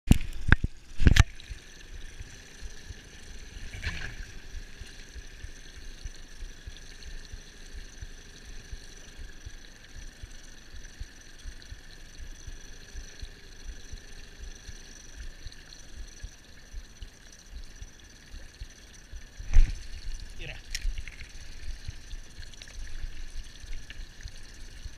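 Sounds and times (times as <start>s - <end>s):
faint high whine: 0.1s - 24.9s.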